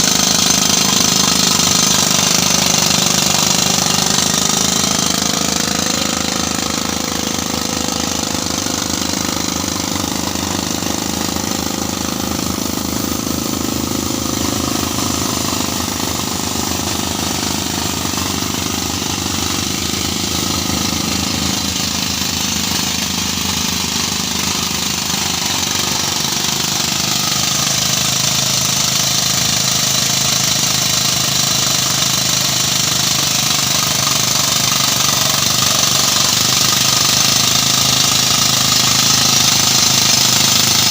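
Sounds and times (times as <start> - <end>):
drill hammering rattle: 0.0 - 40.9.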